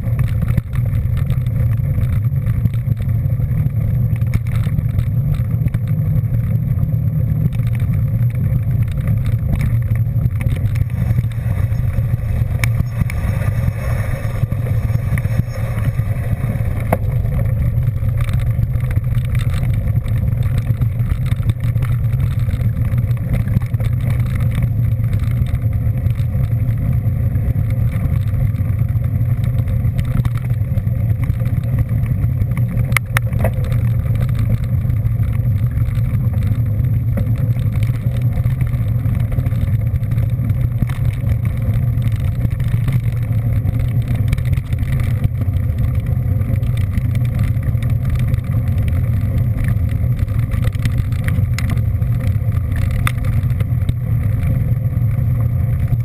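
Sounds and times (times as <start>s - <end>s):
vehicle rumble on board: 0.0s - 56.0s.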